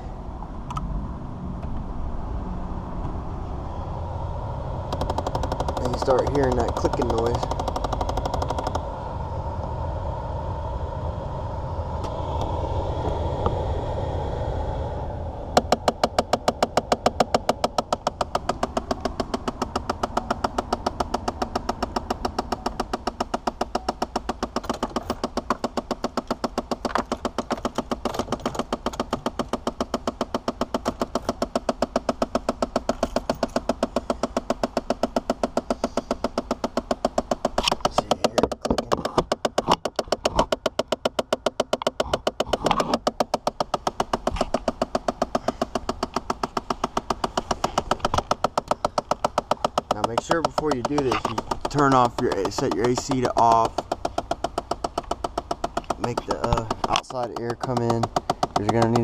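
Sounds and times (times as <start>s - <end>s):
low steady hum: 0.0s - 59.0s
actuator clicking rapidly: 4.9s - 8.9s, 15.6s - 59.0s.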